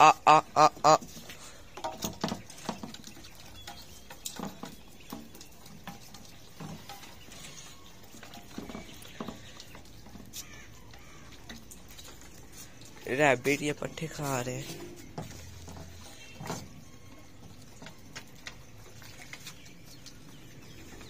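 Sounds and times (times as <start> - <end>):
birds pecking on a board: 0.0 - 21.0
soft bird calls: 0.0 - 21.0.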